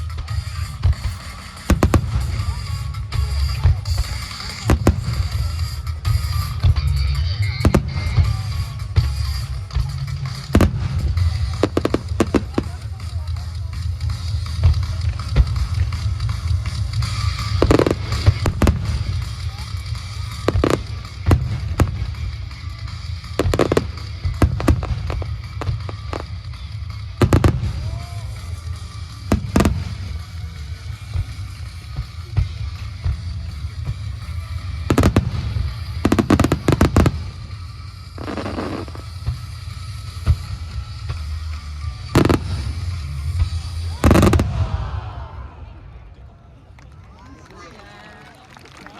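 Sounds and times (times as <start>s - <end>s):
music with heavy drum beat: 0.0s - 45.2s
fireworks bangs: 0.0s - 45.7s.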